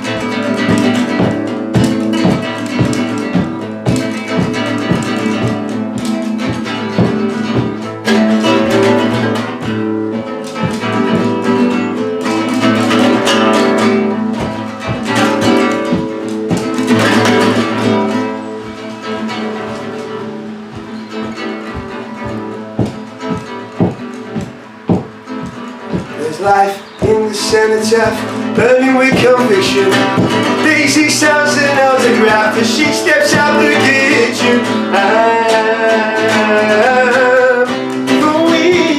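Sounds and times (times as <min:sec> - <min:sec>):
acoustic guitar strummed and plucked: 0:00.0 - 0:38.9.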